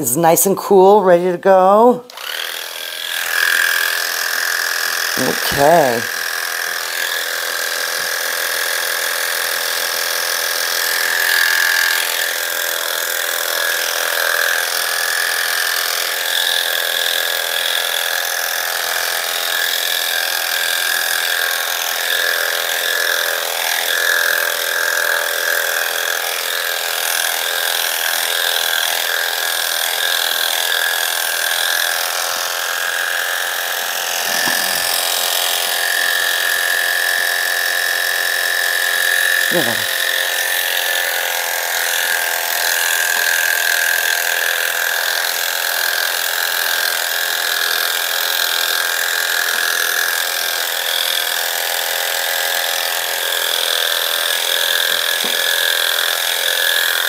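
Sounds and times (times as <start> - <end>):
electric clippers whining: 0.9 - 57.0.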